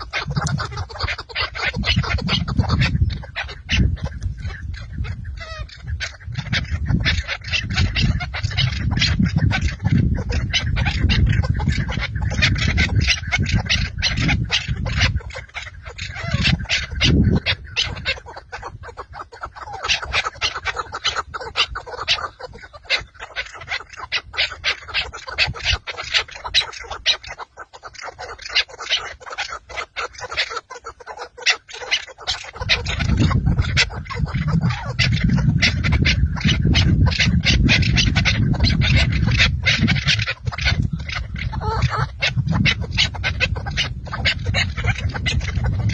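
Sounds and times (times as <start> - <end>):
partridge chattering calls: 0.0 - 45.9.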